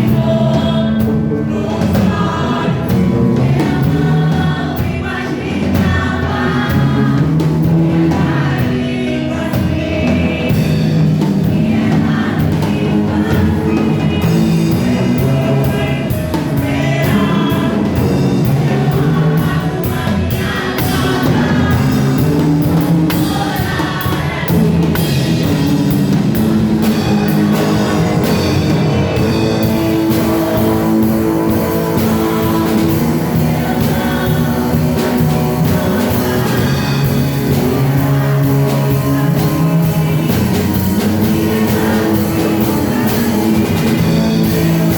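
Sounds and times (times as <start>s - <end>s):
band accompaniment: 0.0s - 44.9s
group singing a praise song: 0.0s - 44.9s
steady drum beat: 0.0s - 44.9s.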